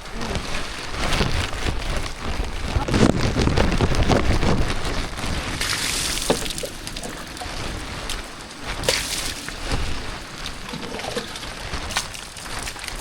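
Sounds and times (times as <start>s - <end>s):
water splashing and running: 0.0s - 13.0s.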